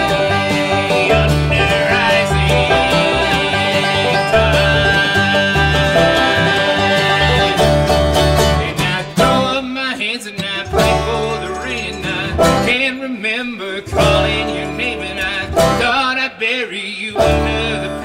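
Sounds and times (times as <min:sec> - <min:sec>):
upright double bass: 0:00.0 - 0:13.0, 0:13.7 - 0:16.2, 0:17.1 - 0:18.0
mandolin: 0:00.0 - 0:16.3, 0:17.0 - 0:18.0
acoustic guitar: 0:00.0 - 0:18.0
banjo: 0:00.0 - 0:18.0.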